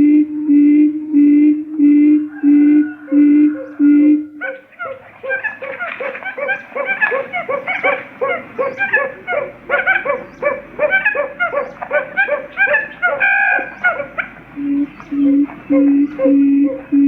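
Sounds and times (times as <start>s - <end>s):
low steady hoots: 0.0s - 17.0s
quail chirping calls: 2.3s - 17.0s.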